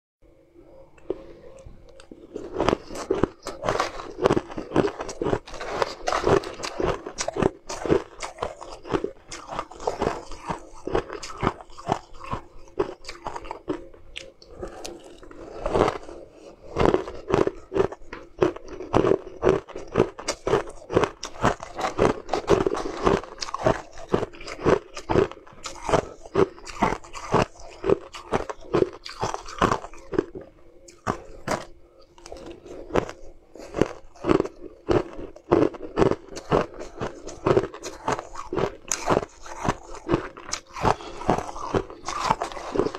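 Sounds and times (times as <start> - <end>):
crunching and chewing ice: 1.0 - 42.9.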